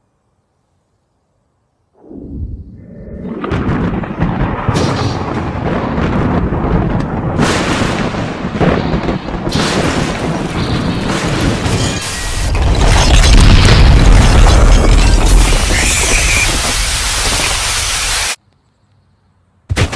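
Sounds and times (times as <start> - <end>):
explosive lightning strikes: 2.1 - 18.4.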